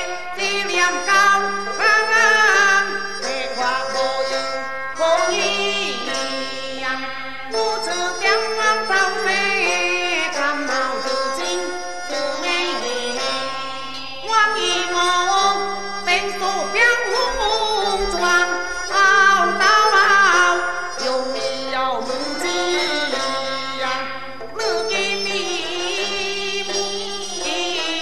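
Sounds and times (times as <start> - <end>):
traditional chinese ensemble music: 0.0 - 28.0.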